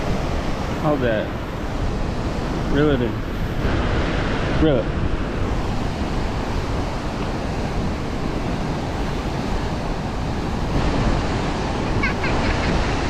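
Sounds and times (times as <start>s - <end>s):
river current rushing: 0.0s - 13.0s
wind rumbling on microphone: 0.0s - 13.0s.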